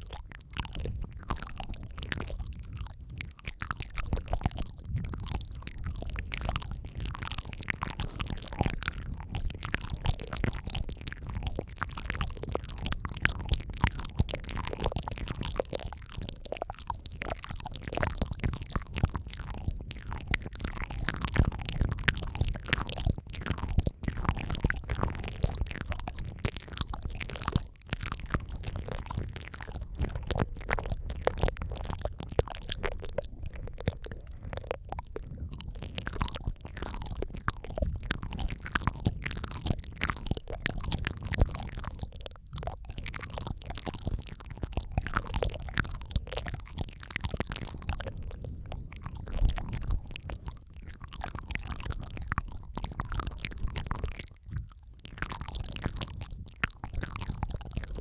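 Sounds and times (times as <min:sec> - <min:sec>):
wet mouth clicks and smacks: 0:00.0 - 0:58.0.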